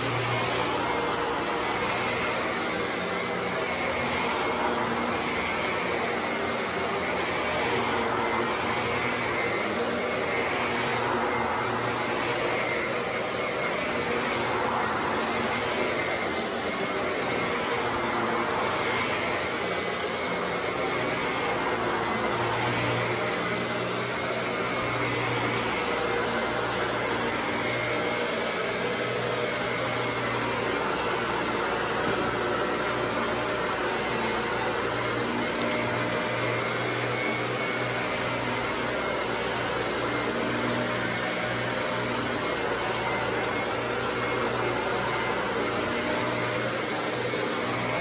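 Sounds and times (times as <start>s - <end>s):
vacuum cleaner running on carpet: 0.0s - 48.0s.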